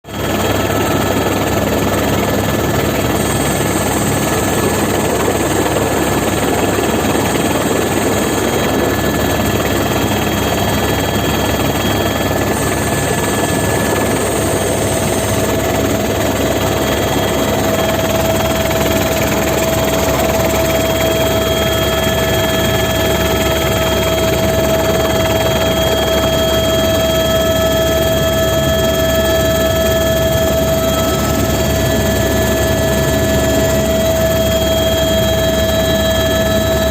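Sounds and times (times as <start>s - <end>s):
helicopter rotor and engine: 0.0s - 36.9s
thin whine: 5.0s - 36.9s.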